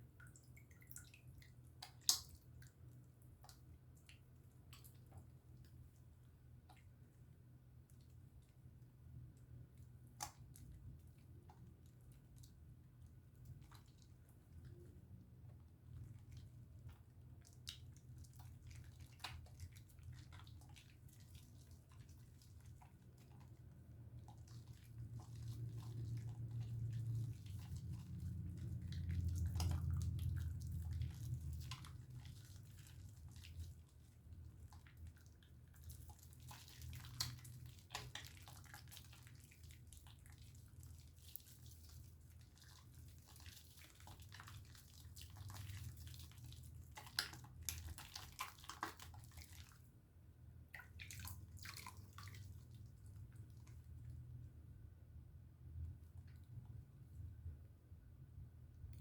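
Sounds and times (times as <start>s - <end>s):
small drips: 0.0s - 54.6s, 55.6s - 57.6s
wet soap squishing and crackling: 0.0s - 57.6s.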